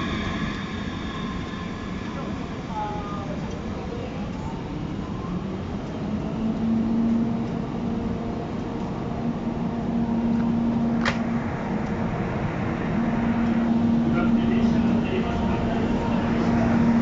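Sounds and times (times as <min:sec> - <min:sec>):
electric locomotive hum: 0:00.0 - 0:17.0.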